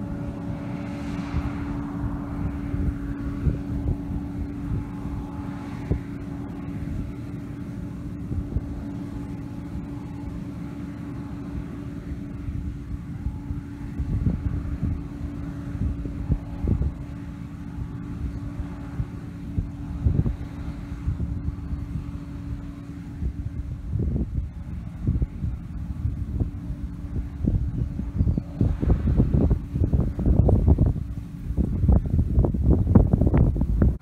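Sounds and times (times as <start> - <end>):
combine harvester droning: 0.0 - 34.0
wind buffeting microphone: 0.0 - 34.0.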